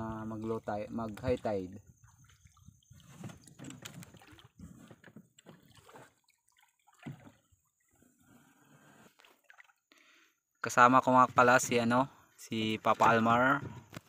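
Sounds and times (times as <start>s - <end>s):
water sloshing and dripping: 0.0s - 14.0s.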